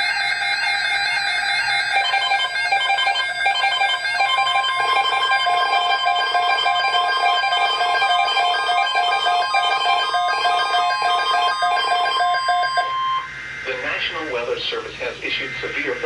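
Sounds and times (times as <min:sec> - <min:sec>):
electronic melody: 0:00.9 - 0:14.5.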